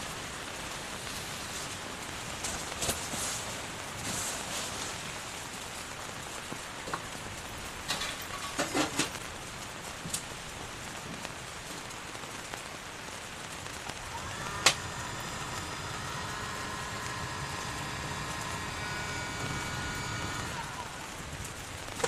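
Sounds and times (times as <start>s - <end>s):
heavy rain on a tent: 0.0s - 22.0s.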